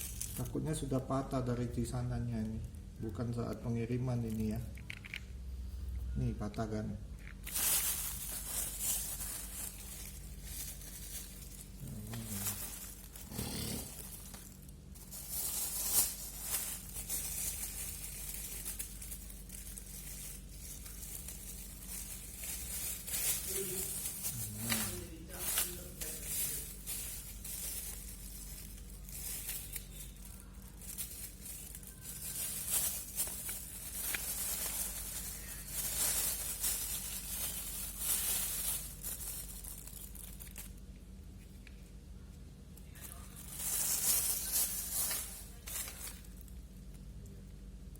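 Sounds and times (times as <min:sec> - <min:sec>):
plastic packaging crinkling: 0:00.0 - 0:05.4, 0:07.0 - 0:47.9
faint steady hum: 0:00.0 - 0:47.9.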